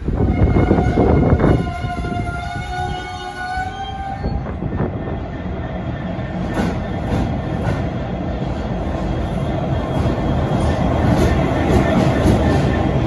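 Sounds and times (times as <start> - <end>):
train rumble on rails: 0.0 - 13.0.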